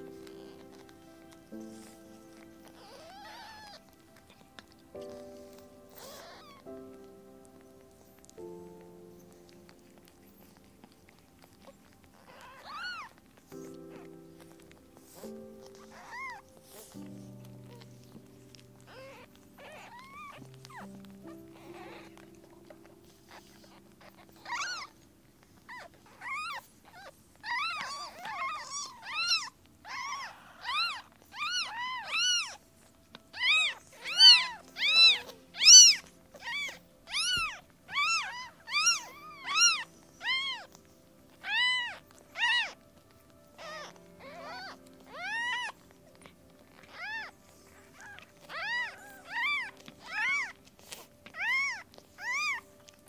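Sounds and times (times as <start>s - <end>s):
kittens mewing: 0.0s - 53.0s.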